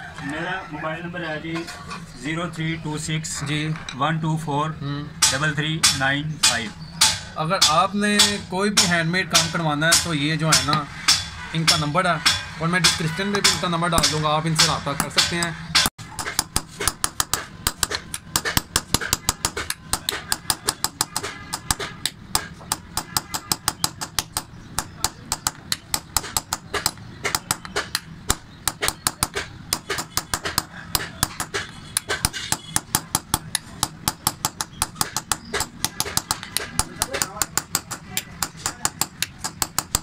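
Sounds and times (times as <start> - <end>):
hammer tapping punch on copper: 5.2 - 40.0.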